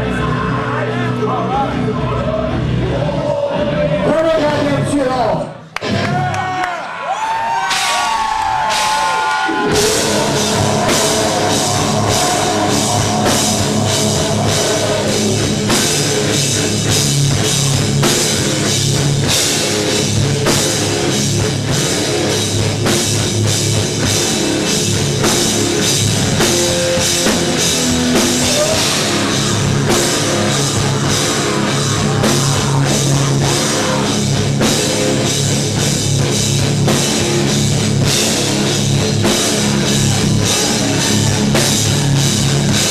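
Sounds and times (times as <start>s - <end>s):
heavy metal band playing live: 7.8s - 42.9s.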